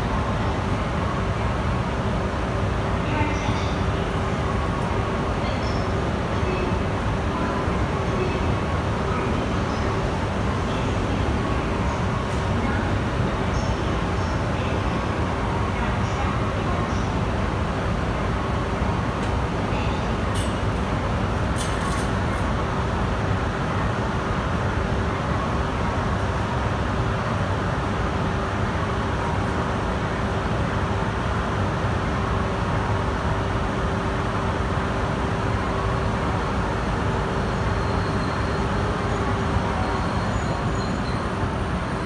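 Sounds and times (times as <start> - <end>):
faint high whine of train: 0.0 - 42.0
trains rumbling and humming: 0.0 - 42.0.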